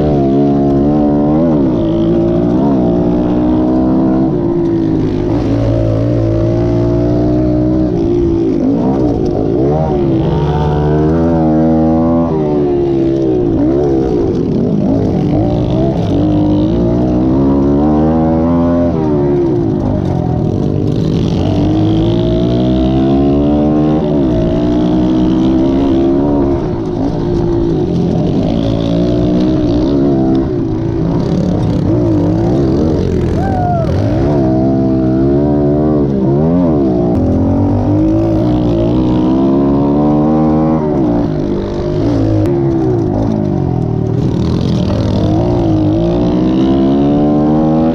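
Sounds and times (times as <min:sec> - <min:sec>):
pit bike engines revving: 0:00.0 - 0:47.9.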